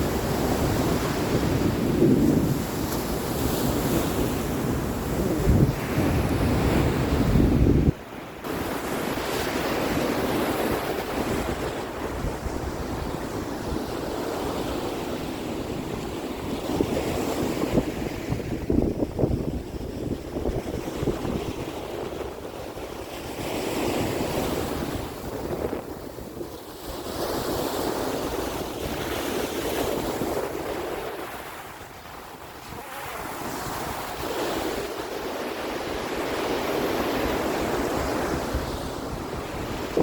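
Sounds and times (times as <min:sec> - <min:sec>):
sea waves washing ashore: 0:00.0 - 0:40.0
wind buffeting microphone: 0:00.0 - 0:40.0.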